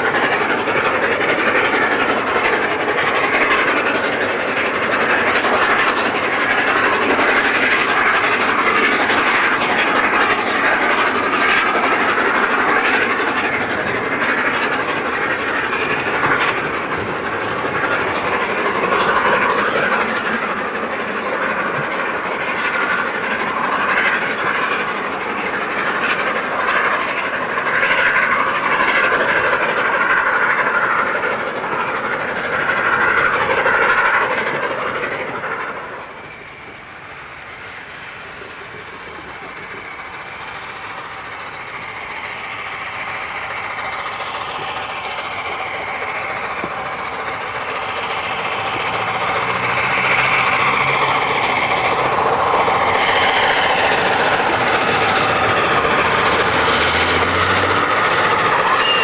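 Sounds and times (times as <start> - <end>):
distant steam locomotive exhaust: 0.0 - 59.0
steam hiss: 0.0 - 59.0.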